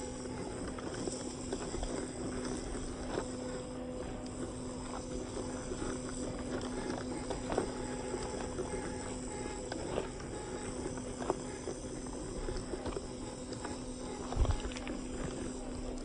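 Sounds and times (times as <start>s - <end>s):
toy car motor whine: 0.0s - 16.0s.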